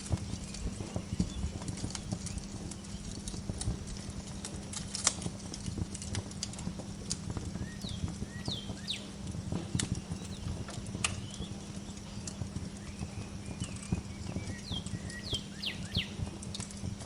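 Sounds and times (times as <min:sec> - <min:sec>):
birds chirping: 0:00.0 - 0:04.9, 0:06.5 - 0:17.0
low steady hum: 0:00.0 - 0:17.0
wood fire crackling and popping: 0:00.0 - 0:17.0.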